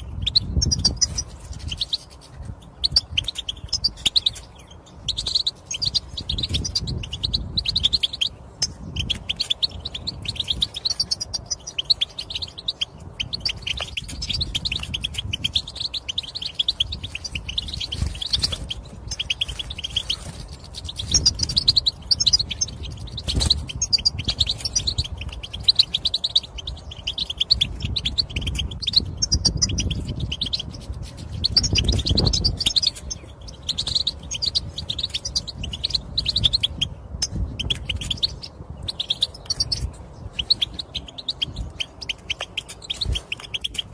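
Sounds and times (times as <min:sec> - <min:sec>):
goldfinch chattering and twittering: 0:00.0 - 0:43.9.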